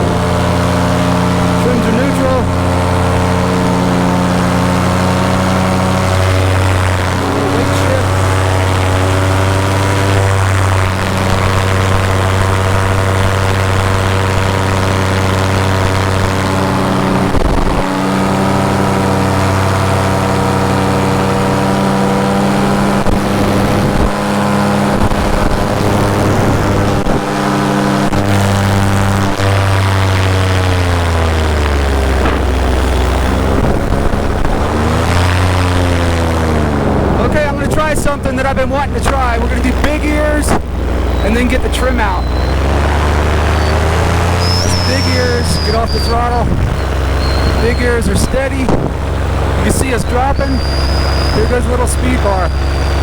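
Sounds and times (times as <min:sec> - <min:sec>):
paramotor engine and propeller drone: 0:00.0 - 0:53.0.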